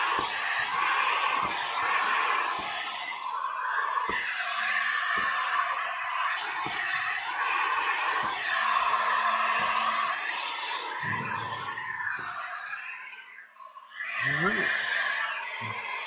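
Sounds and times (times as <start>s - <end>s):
heat gun fan blowing: 0.0s - 13.0s.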